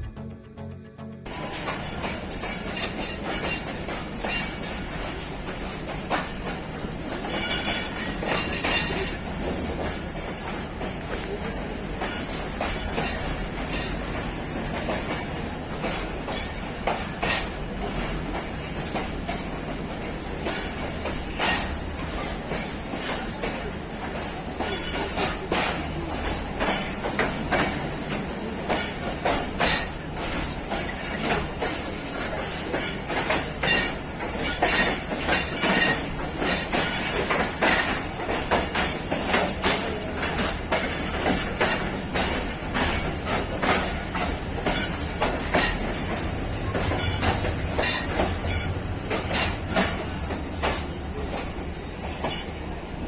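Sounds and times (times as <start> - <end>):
train wheels clickety-clack: 1.3 - 53.0.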